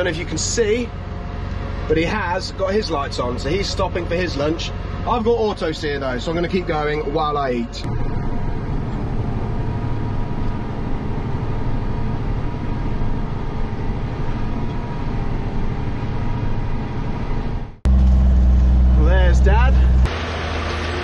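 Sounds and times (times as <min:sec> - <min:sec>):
deep vehicle engine drone: 0:00.0 - 0:21.0
tractor engine drone: 0:00.0 - 0:21.0.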